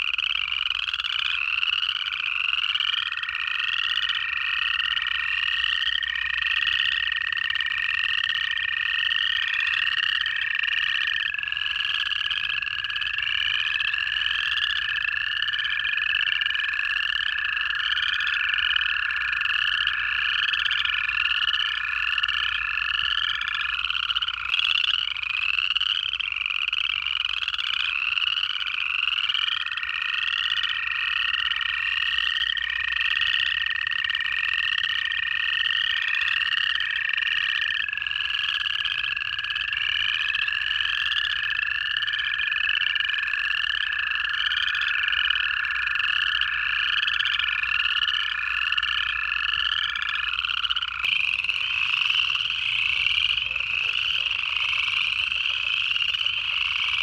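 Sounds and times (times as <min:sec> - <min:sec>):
chorus frogs trilling: 0:00.0 - 0:57.0
toads long even trills: 0:00.0 - 0:57.0.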